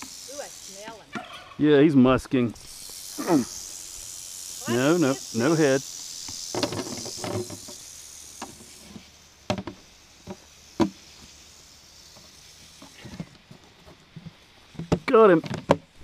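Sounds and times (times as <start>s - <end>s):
rattlesnake rattling: 0.0s - 16.0s.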